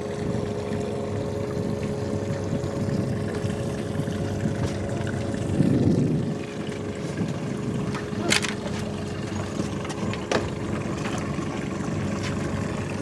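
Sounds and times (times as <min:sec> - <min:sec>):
boat motor rumbling with whine: 0:00.0 - 0:13.0.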